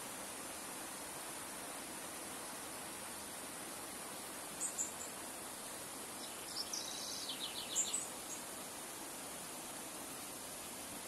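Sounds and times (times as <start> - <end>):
river rushing over stones: 0.0 - 11.0
songbird singing: 0.0 - 11.0.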